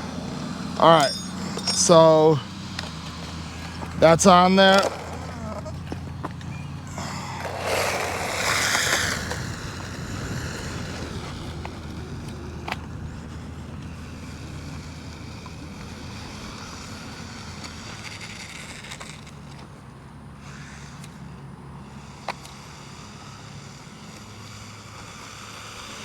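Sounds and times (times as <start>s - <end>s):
rc car motor and tires whirring: 0.0s - 26.0s.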